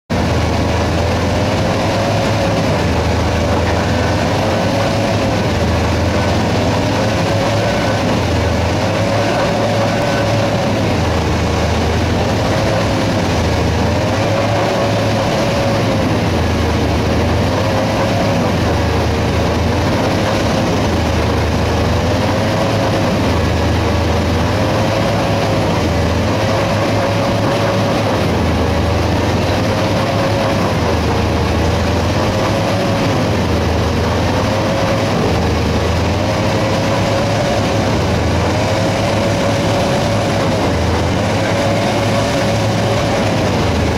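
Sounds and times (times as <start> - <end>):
chain trencher cutting rock: 0.1 - 43.9
excavators working: 0.1 - 43.9.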